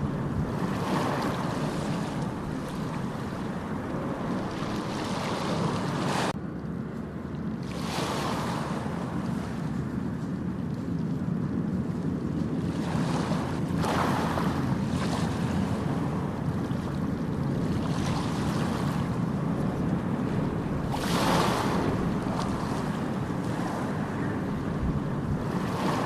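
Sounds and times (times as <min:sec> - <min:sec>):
ocean waves breaking: 0:00.0 - 0:26.0
wind on microphone: 0:00.0 - 0:26.0.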